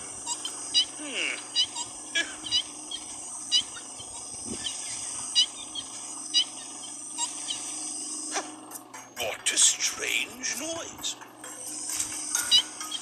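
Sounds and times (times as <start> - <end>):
baby mouse lemurs chirping: 0.0 - 13.0
steady high hiss: 0.0 - 13.0.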